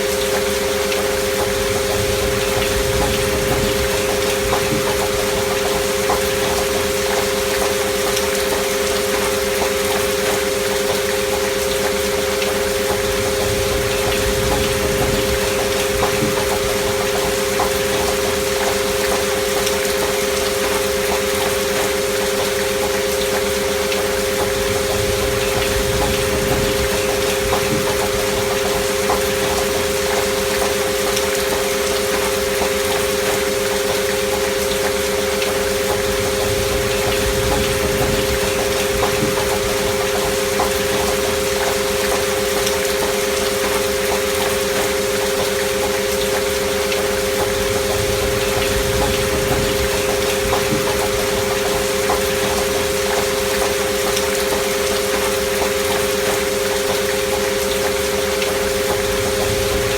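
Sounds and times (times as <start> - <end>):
rain falling: 0.0 - 59.9
steady sine tones: 0.0 - 59.9.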